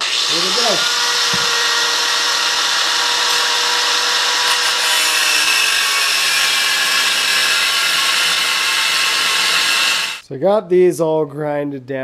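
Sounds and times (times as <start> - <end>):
angle grinder cutting steel: 0.0 - 10.2.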